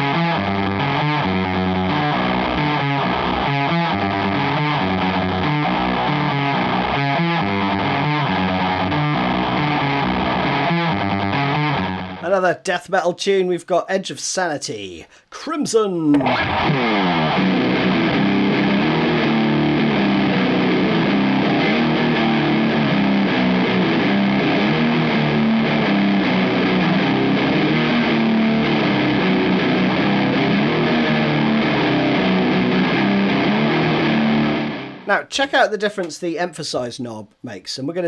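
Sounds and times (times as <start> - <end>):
distorted electric guitar riff: 0.0 - 12.2, 16.1 - 35.2.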